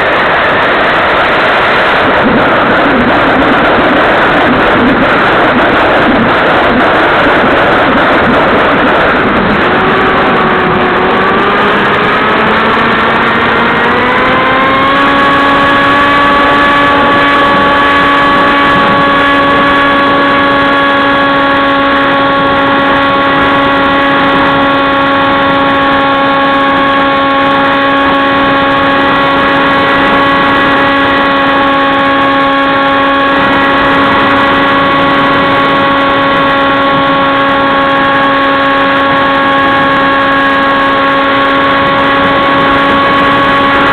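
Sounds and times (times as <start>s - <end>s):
electric motor and propeller whine: 0.0s - 43.9s.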